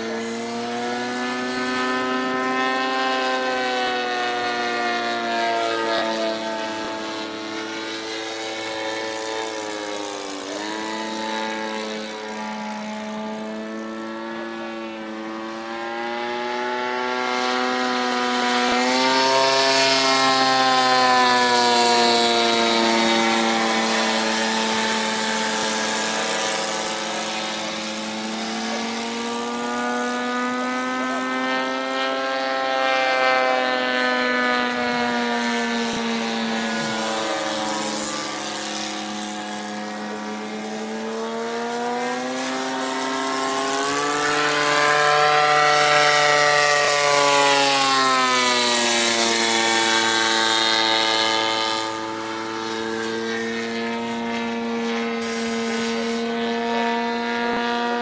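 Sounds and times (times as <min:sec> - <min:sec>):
model airplane engine in flight: 0:00.0 - 0:58.0.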